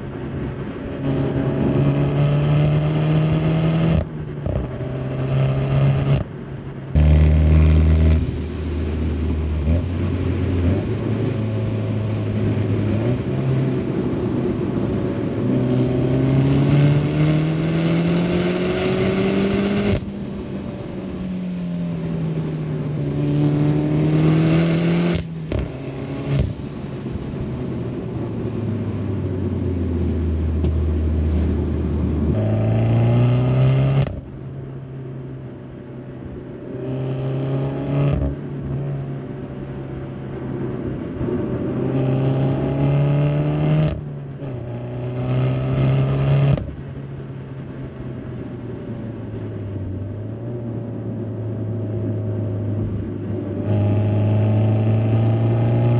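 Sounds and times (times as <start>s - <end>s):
car engine revving: 0.9s - 6.3s, 7.0s - 34.7s, 39.9s - 49.6s, 50.3s - 55.9s.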